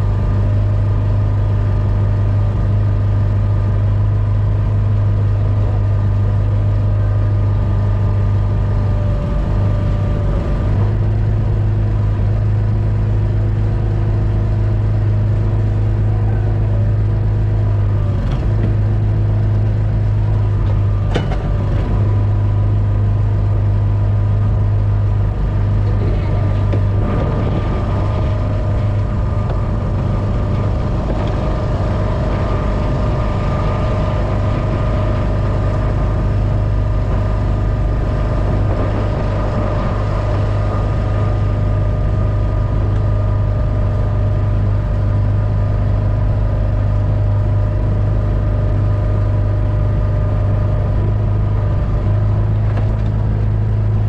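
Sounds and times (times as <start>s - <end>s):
boat engine humming: 0.0s - 54.0s
engine whining tones: 0.0s - 54.0s.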